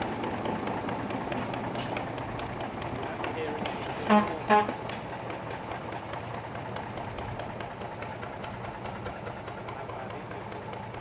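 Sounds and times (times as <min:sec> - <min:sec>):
locomotive engine running: 0:00.0 - 0:11.0.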